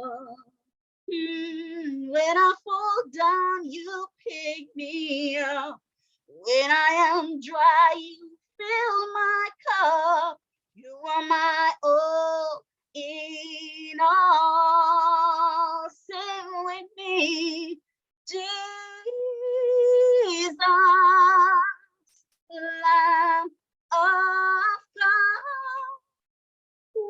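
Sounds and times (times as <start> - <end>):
woman singing worship song: 1.2 - 5.8, 6.4 - 21.8, 22.5 - 26.0.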